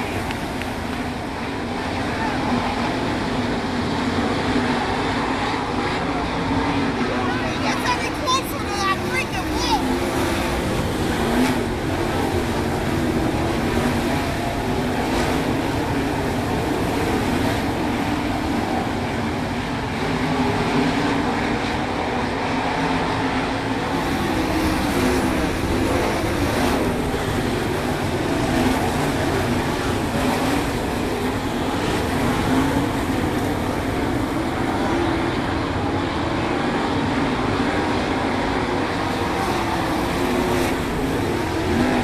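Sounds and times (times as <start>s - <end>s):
racing car engines: 0.0s - 42.0s.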